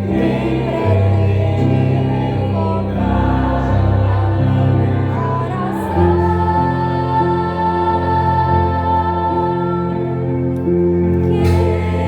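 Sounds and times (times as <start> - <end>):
choir singing slow song: 0.0 - 12.0.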